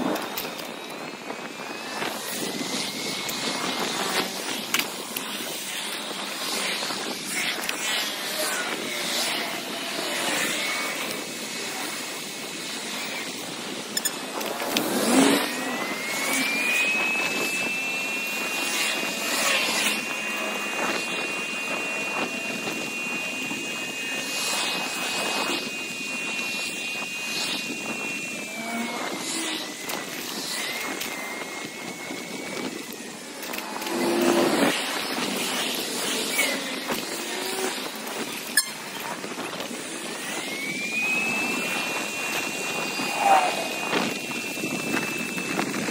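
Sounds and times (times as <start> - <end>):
thin high whine: 0.0 - 45.9
wind noise on microphone: 0.0 - 45.9.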